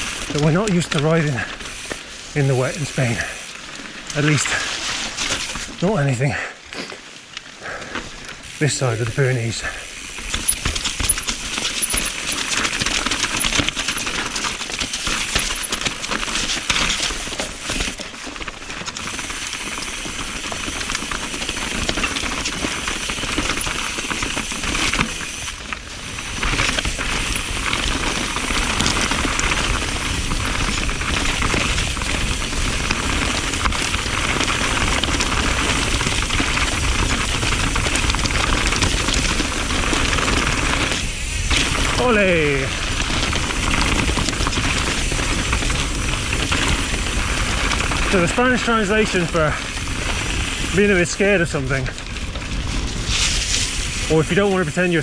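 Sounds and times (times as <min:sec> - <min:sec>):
bike chain and frame rattling: 0:00.0 - 0:06.5, 0:08.0 - 0:55.0
bike tyres rolling on wet dirt: 0:00.0 - 0:55.0.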